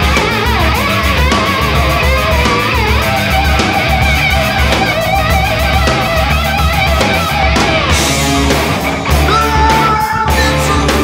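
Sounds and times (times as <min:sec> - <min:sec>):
rock music with electric guitar: 0:00.0 - 0:11.0
steady drum beat: 0:00.0 - 0:11.0.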